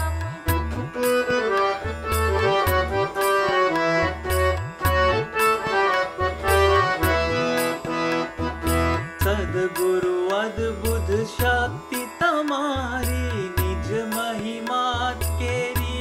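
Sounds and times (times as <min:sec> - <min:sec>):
harmonium melody: 0:00.0 - 0:16.0
tabla drumming: 0:00.0 - 0:16.0.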